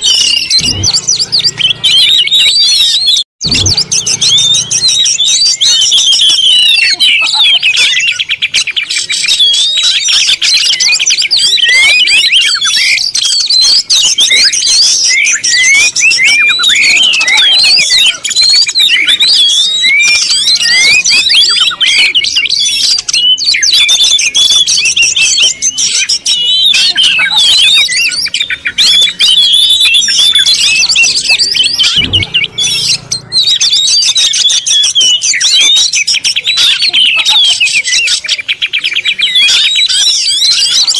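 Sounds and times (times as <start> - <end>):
many small birds chirping: 0.0 - 40.9.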